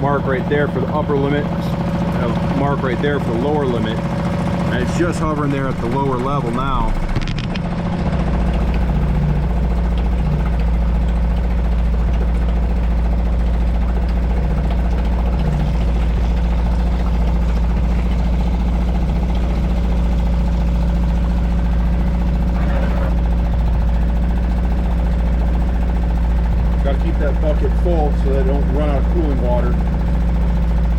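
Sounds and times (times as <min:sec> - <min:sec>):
outboard engine running: 0:00.0 - 0:30.9.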